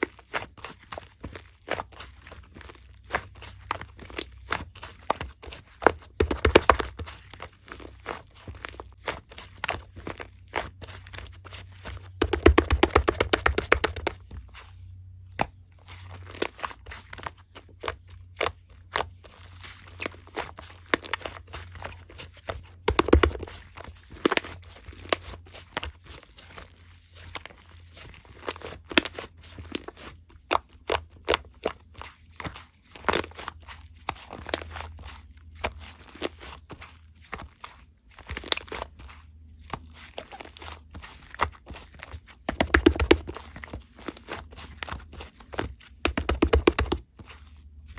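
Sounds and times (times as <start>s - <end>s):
slime squishing with sticky clicks: 0.1s - 14.5s, 20.0s - 26.1s, 28.3s - 47.6s.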